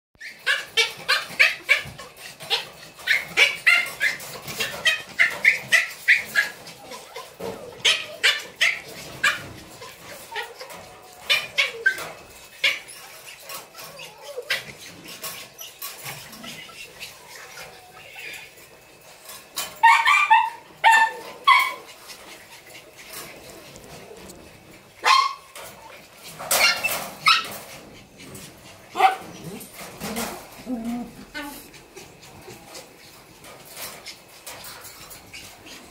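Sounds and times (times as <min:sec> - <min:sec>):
puppies yipping and barking: 0:00.2 - 0:35.9.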